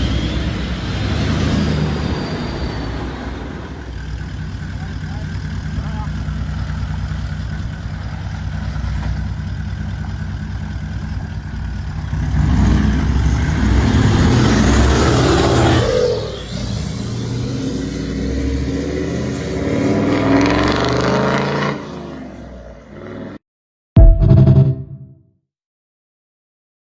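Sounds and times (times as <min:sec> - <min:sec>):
engine roaring: 0:00.0 - 0:23.4.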